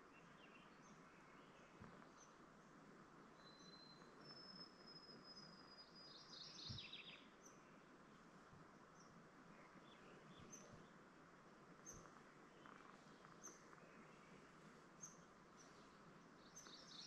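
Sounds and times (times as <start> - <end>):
faint forest ambience: 0.0 - 17.0.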